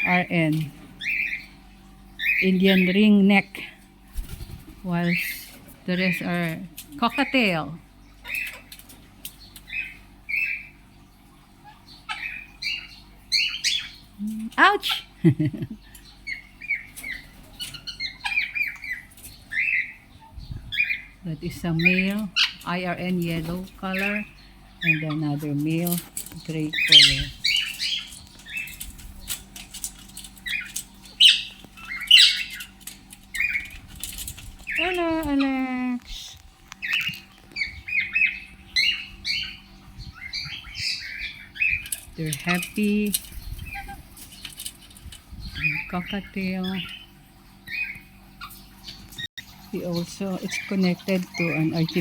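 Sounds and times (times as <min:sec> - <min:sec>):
parrots squawking: 0:00.9 - 0:01.6, 0:02.2 - 0:03.4, 0:05.0 - 0:08.8, 0:11.6 - 0:42.8, 0:43.6 - 0:44.9, 0:45.5 - 0:52.0.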